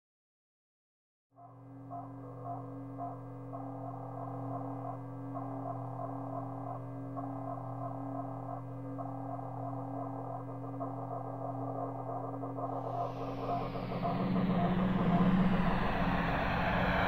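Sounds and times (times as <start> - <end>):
low synthesizer drone: 1.4 - 17.0.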